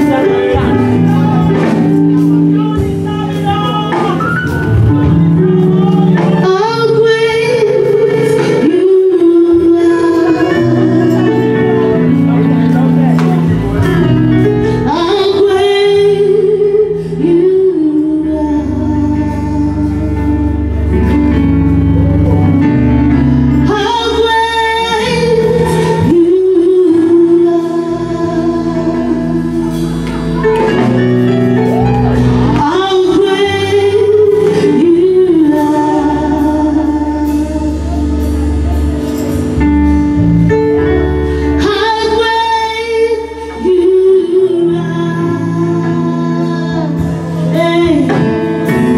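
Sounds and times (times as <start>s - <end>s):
band with steady bass line: 0.0s - 48.9s.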